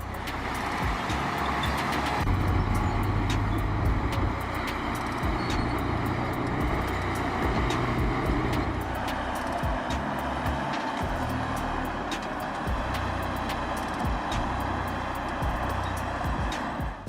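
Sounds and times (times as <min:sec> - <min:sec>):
heavy machinery engine rumbling: 0:00.0 - 0:17.0.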